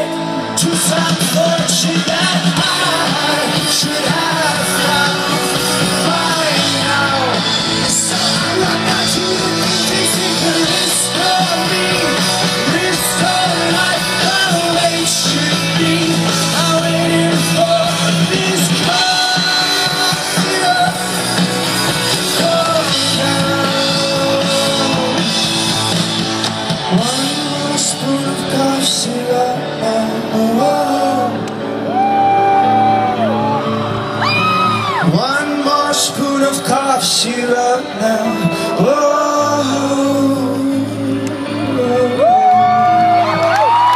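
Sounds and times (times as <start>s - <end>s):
rock band playing: 0.0s - 43.9s.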